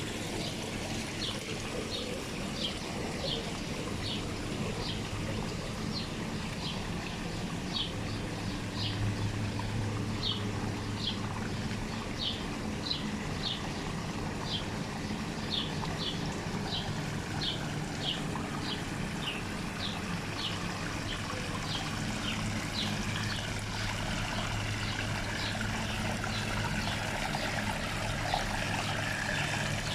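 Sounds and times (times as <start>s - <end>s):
water trickling in a stream: 0.0s - 29.9s.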